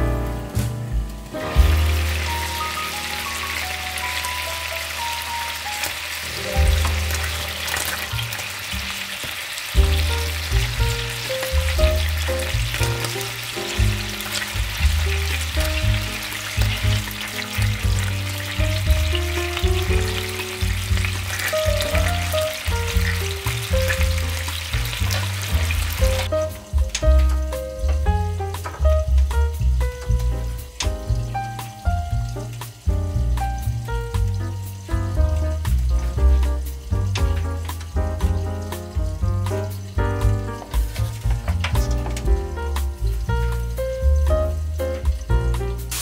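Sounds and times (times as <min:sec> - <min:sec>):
background music with bass line: 0:00.0 - 0:05.6, 0:06.3 - 0:46.0
food sizzling in hot oil: 0:00.2 - 0:46.0.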